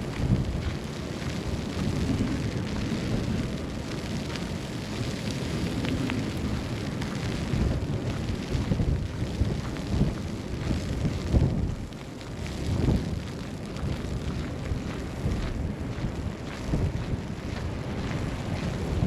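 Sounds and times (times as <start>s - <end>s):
gusty wind rumble: 0.0s - 19.0s.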